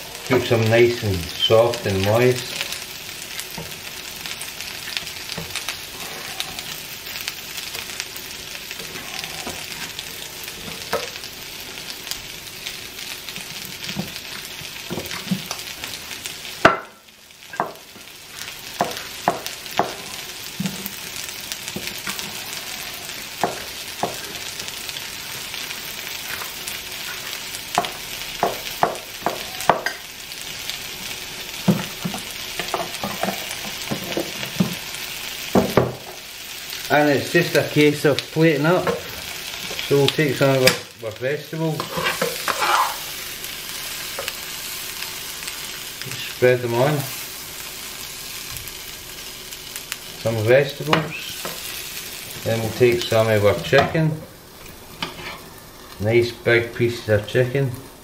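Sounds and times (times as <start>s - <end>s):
vegetables sizzling in a frying pan: 0.0s - 58.0s.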